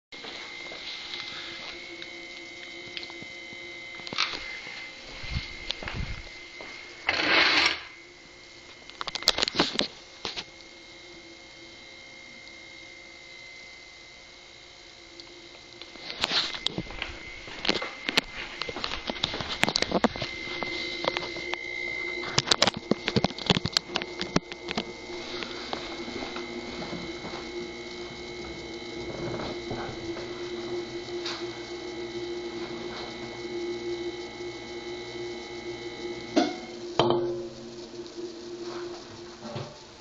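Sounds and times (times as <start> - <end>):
refrigerator compressor humming: 0.1 - 40.0.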